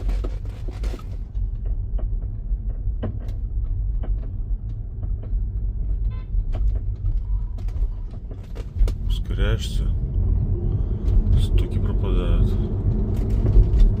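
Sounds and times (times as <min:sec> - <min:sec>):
low road rumble: 0:00.0 - 0:14.0.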